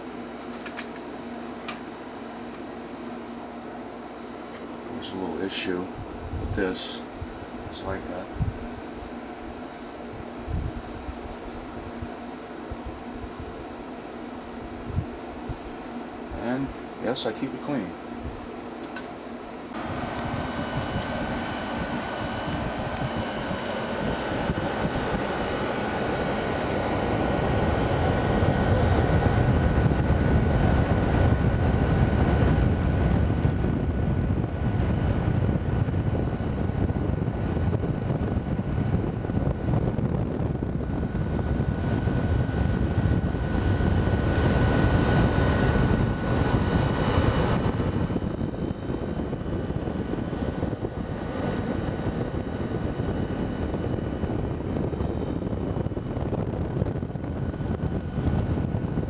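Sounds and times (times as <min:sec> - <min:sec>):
air conditioner fan blowing: 0:00.0 - 0:59.0
thin steady whine: 0:00.0 - 0:59.0.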